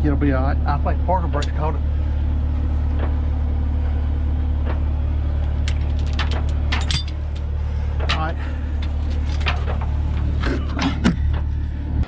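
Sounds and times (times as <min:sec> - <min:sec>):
heavy equipment engine idling: 0:00.0 - 0:12.0.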